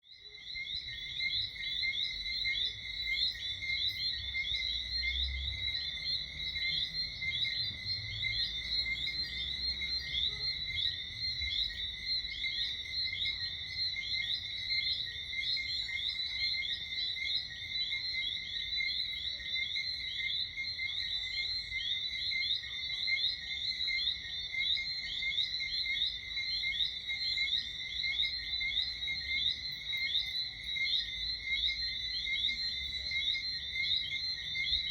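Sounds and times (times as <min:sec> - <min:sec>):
frogs chirping: 0:00.0 - 0:34.9.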